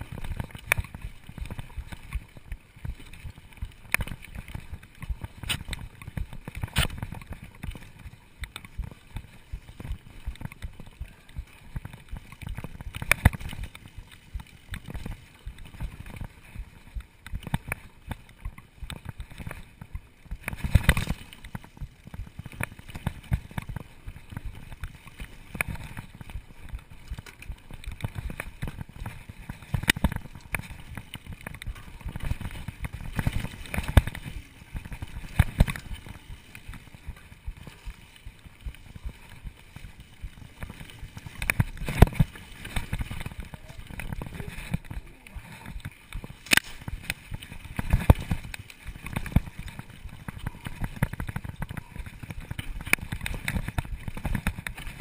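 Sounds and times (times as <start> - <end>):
bike knocking and rattling: 0.0 - 55.0
bike tyres rolling on dirt trail: 0.0 - 55.0.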